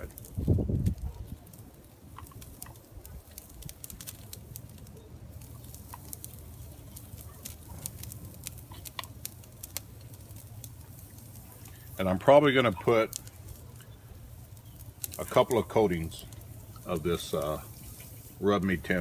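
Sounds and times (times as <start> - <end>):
charcoal grill popping and crackling: 0.0 - 19.0
low steady rumble: 0.0 - 19.0.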